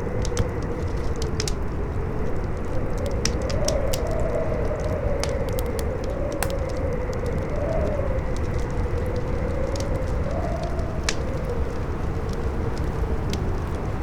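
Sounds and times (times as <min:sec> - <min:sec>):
campfire crackling and popping: 0:00.0 - 0:14.0
howling wind: 0:00.0 - 0:14.0.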